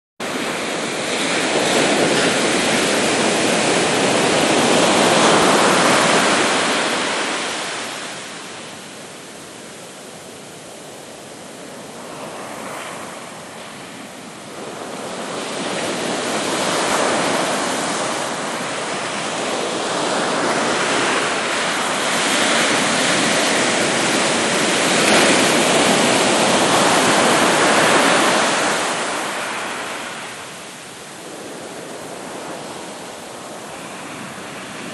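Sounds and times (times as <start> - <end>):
ocean waves breaking on beach: 0.2 - 34.9.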